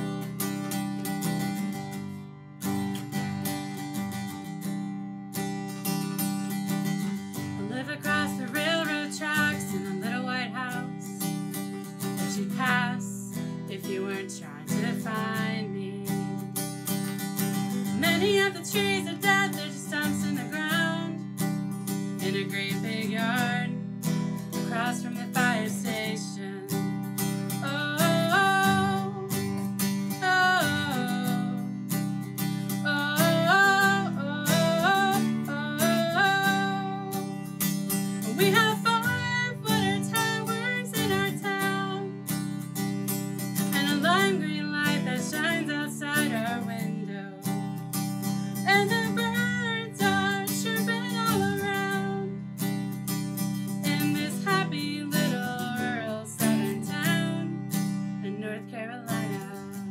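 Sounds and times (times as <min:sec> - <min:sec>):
strummed acoustic guitar: 0:00.0 - 0:59.9
woman singing: 0:06.5 - 0:59.9.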